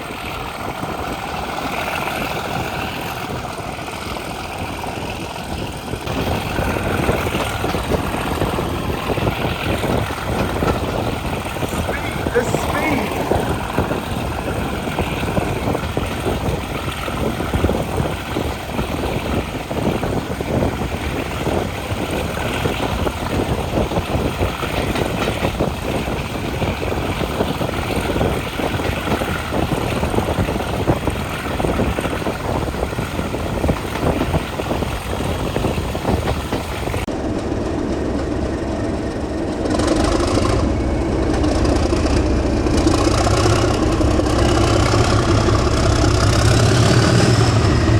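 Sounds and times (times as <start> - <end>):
train engine hum: 0.0 - 47.9
train wheels rumbling on track: 0.0 - 47.9.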